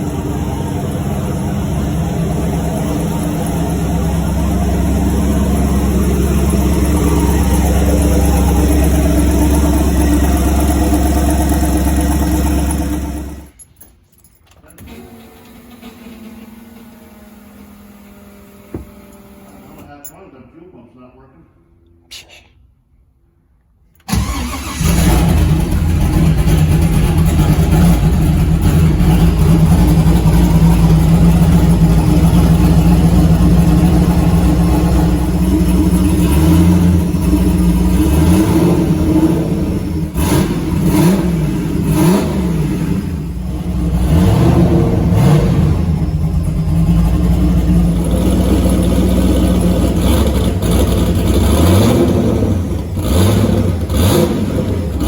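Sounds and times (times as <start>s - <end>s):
car engine revving: 0.0s - 13.6s, 24.1s - 55.0s.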